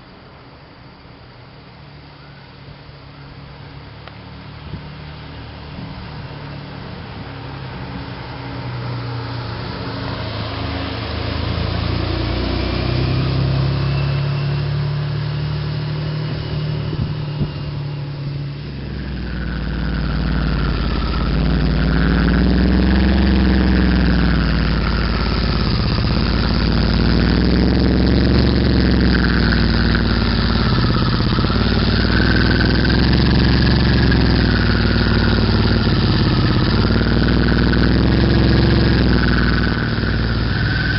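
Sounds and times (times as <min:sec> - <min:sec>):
turbocharged car engine revving: 0:03.7 - 0:40.9.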